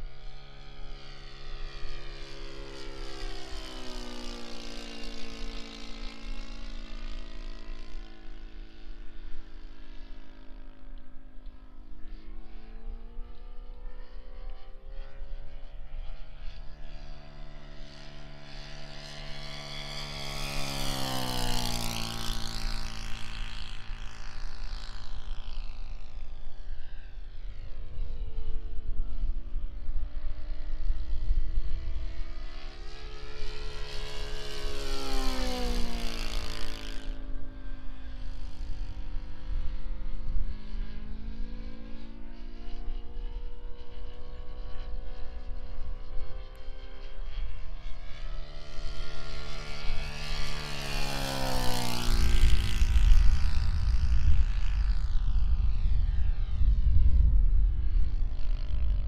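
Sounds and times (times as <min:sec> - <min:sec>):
model airplane propeller drone: 0:00.0 - 0:59.0.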